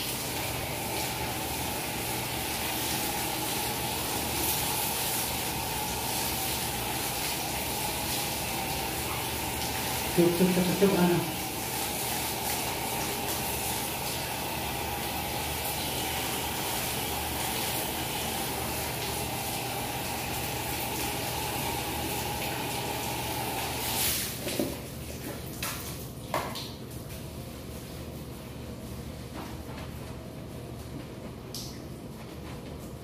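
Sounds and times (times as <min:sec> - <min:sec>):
shower water spraying: 0:00.0 - 0:29.2.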